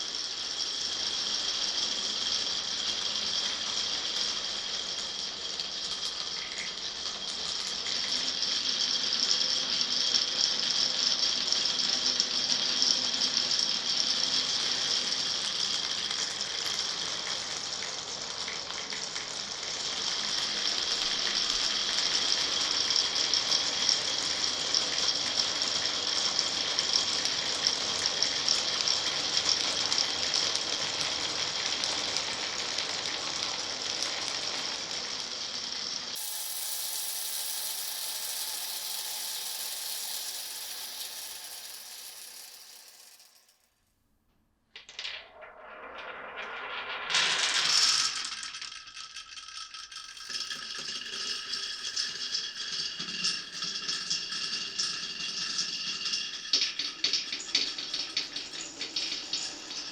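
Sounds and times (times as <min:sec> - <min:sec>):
marbles rattling along tracks: 0:00.0 - 0:18.0, 0:18.9 - 0:43.7, 0:44.8 - 0:59.9.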